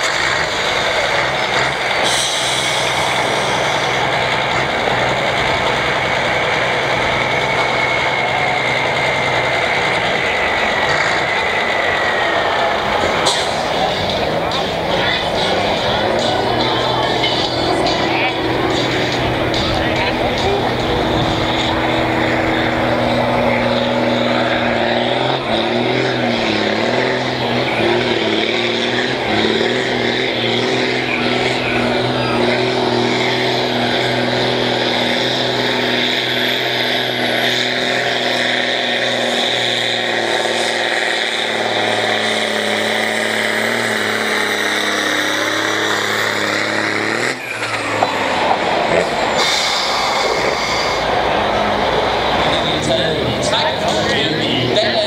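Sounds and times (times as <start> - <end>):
different engine sound: 0.0 - 55.0
tractor diesel engine at full load: 0.0 - 55.0.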